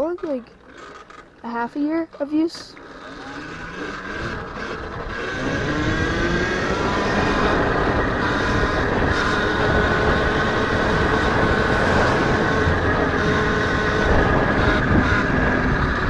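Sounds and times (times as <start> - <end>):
electric motor whining: 2.7 - 16.0
wind and tyre rushing: 2.8 - 16.0.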